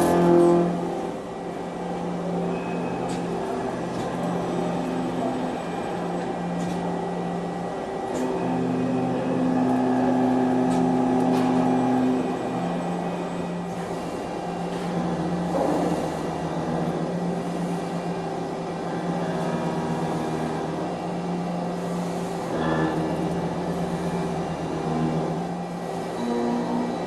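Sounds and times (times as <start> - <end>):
machine motor humming: 0.0 - 27.0.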